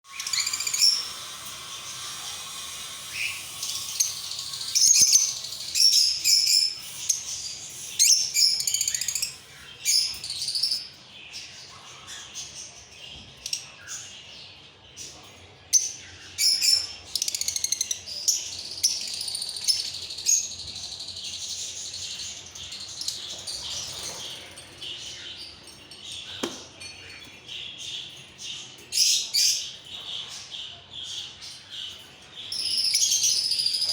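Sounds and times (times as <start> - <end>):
lovebirds chirping: 0.1 - 33.9.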